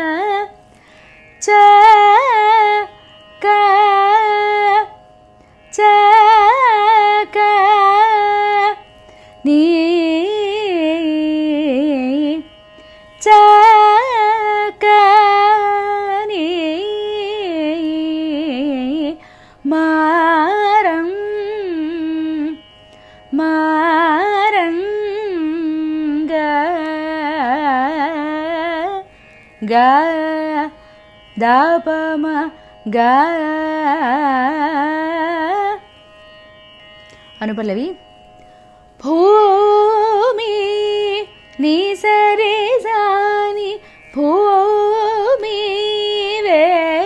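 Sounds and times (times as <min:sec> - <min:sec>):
woman singing with ornaments: 0:00.0 - 0:00.5, 0:01.4 - 0:05.0, 0:05.7 - 0:08.8, 0:09.4 - 0:12.5, 0:13.2 - 0:22.6, 0:23.3 - 0:30.7, 0:31.4 - 0:35.8, 0:39.0 - 0:47.0.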